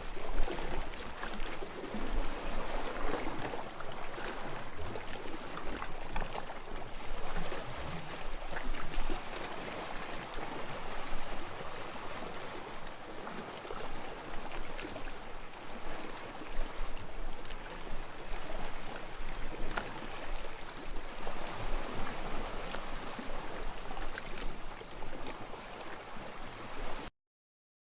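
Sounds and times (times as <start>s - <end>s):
sea waves washing ashore: 0.0s - 27.1s.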